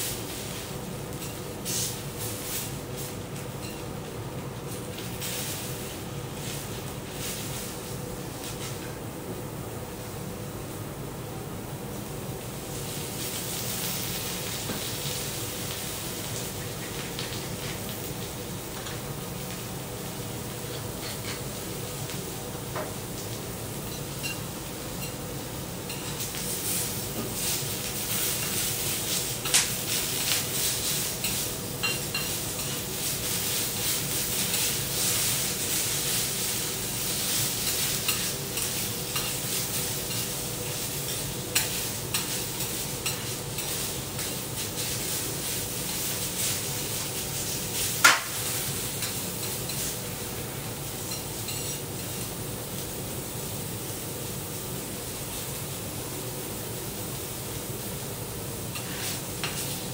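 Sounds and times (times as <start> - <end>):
vegetables sizzling on griddle: 0.0 - 59.9.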